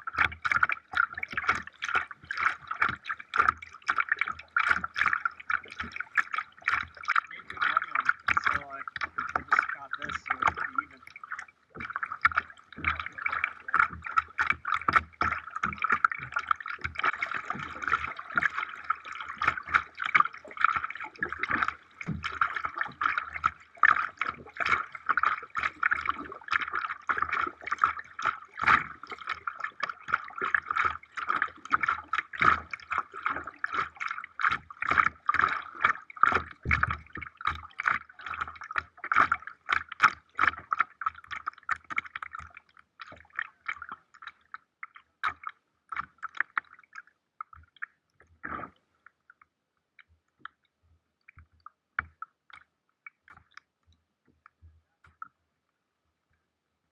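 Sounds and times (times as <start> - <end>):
water splashing and dripping: 0.0 - 50.6.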